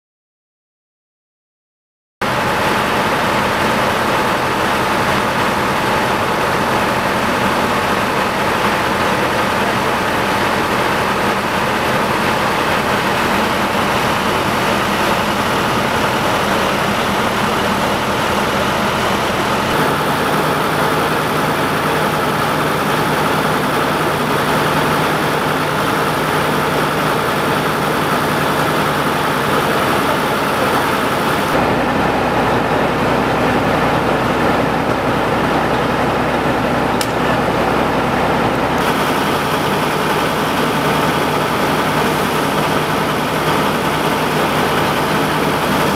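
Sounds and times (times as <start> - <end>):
diesel engine idling: 2.2 - 45.9.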